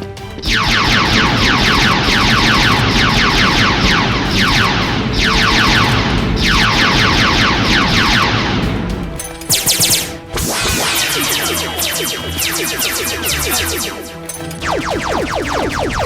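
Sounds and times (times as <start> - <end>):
sci-fi laser gun zaps: 0.5 - 8.4, 9.5 - 16.0.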